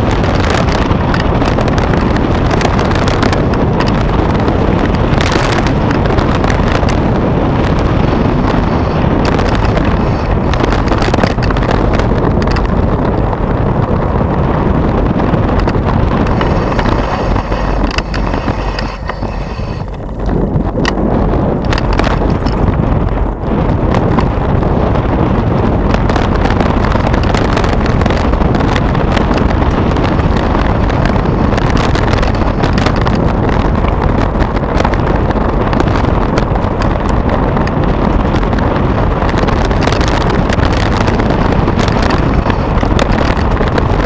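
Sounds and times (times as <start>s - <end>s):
bike knocking and rattling: 0.0s - 44.0s
tyres rumbling on gravel: 0.0s - 44.0s
wind on microphone: 0.0s - 44.0s.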